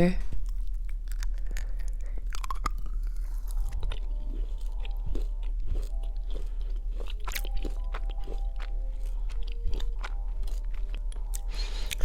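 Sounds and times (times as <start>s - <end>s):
chewing crunchy gummy candy: 0.3s - 12.0s.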